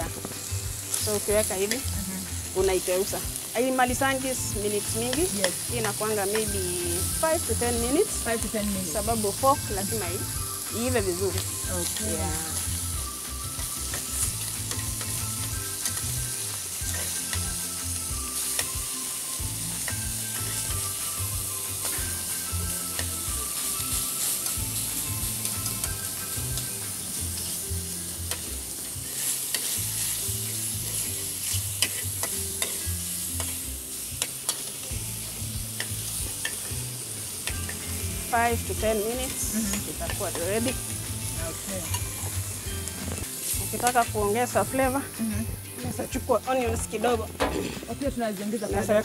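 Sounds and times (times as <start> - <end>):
bacon sizzling in a pan: 0.0 - 49.0.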